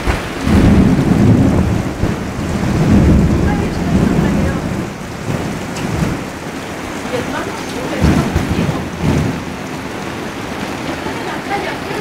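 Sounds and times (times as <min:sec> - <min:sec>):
low rumble of thunder: 0:00.0 - 0:12.0
torrential rain pouring: 0:00.0 - 0:12.0.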